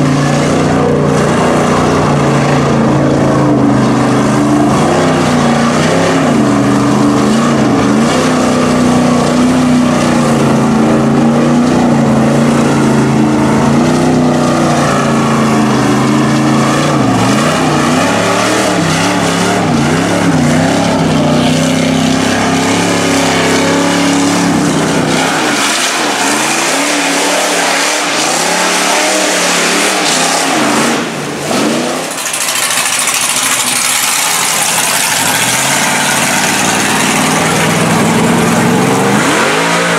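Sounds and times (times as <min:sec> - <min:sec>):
truck engine running under load: 0:00.0 - 0:26.9, 0:30.6 - 0:39.9
water rushing and splashing: 0:00.0 - 0:39.9.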